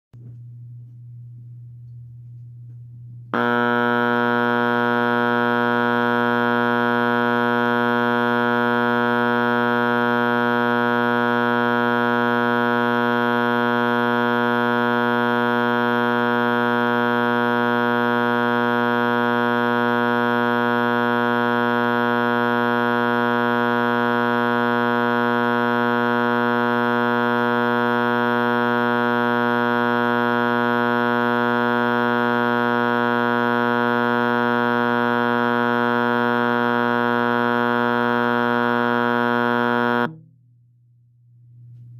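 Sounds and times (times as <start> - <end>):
fire alarm horn buzzing: 3.3 - 40.2.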